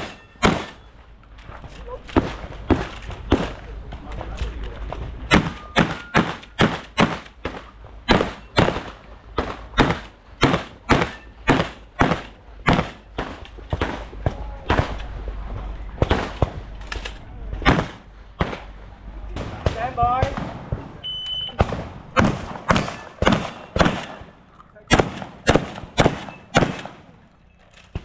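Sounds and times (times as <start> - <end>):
fainter distant gunshots: 0.0 - 0.9, 2.0 - 4.0, 4.8 - 16.8, 17.5 - 27.3
shotgun shots: 0.0 - 0.9, 2.0 - 3.7, 5.3 - 15.1, 16.0 - 27.2.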